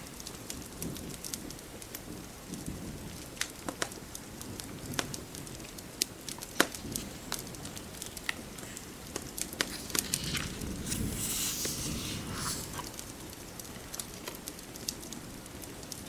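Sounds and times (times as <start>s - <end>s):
wood fire crackling: 0.0s - 16.0s
fire popping: 0.1s - 16.0s.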